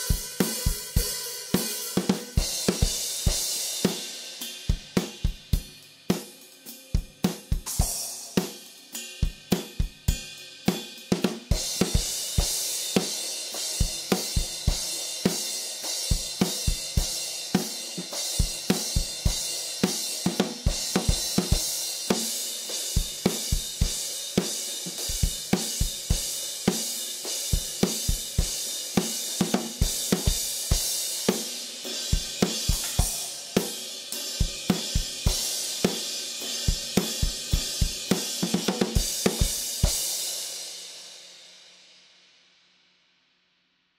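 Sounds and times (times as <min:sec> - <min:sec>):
kick and snare drums: 0:00.0 - 0:04.1, 0:04.7 - 0:08.6, 0:09.2 - 0:15.5, 0:16.1 - 0:33.7, 0:34.4 - 0:40.2.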